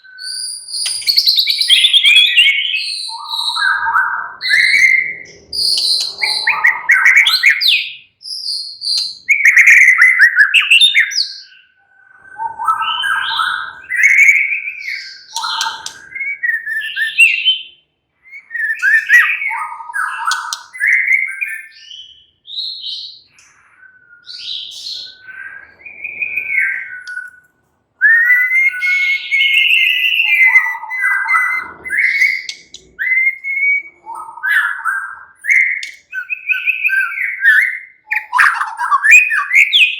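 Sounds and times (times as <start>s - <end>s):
bird singing whistled song: 0.0s - 39.9s.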